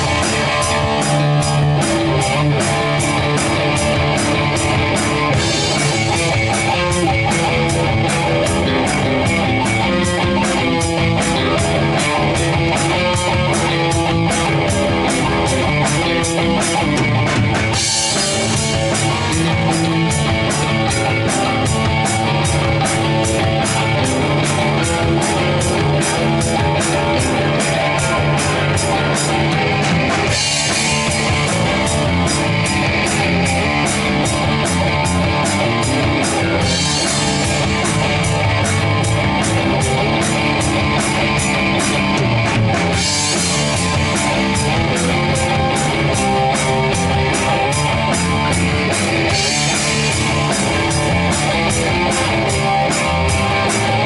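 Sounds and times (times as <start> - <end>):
drum kit beat: 0.0 - 54.0
electric guitar: 0.0 - 54.0.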